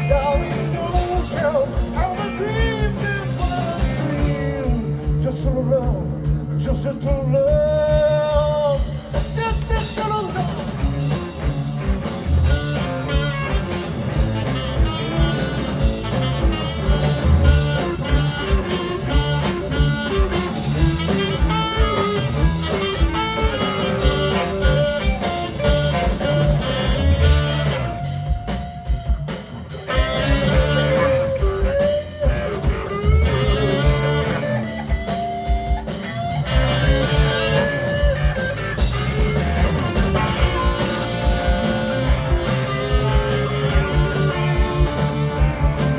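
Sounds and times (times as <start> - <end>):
band playing instrumental: 0.0 - 45.9
lead guitar: 0.0 - 45.9.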